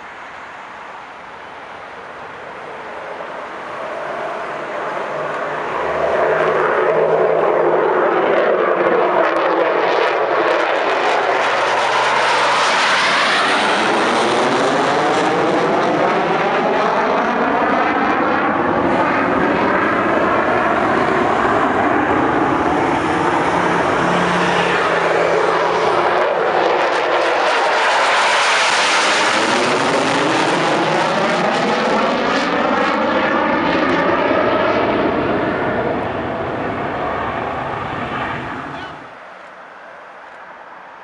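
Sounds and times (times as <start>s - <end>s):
fighter jet taking off: 0.0s - 41.0s.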